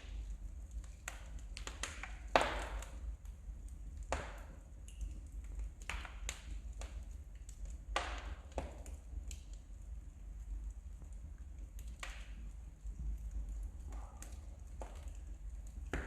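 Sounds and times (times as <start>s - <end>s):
wood fire popping and snapping: 0.0s - 16.0s.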